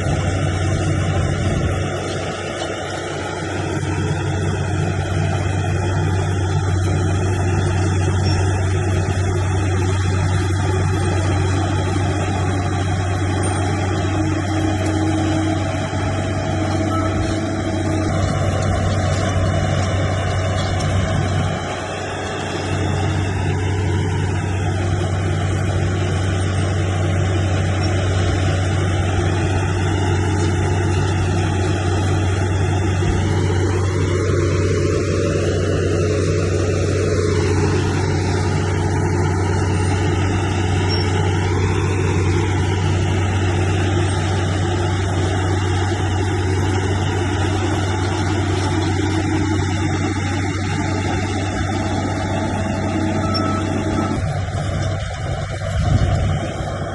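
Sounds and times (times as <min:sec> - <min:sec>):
bulldozer diesel engine drone: 0:00.0 - 0:56.9.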